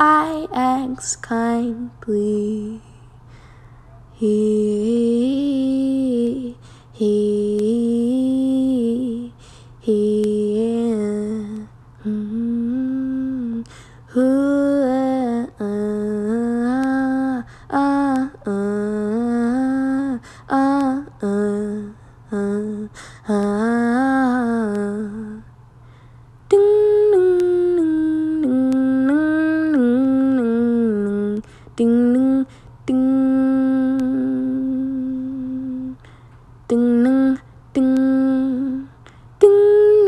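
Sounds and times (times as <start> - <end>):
faint low hum: 0.0 - 40.0
woman humming melody: 4.2 - 25.5, 26.5 - 36.1, 36.7 - 40.0.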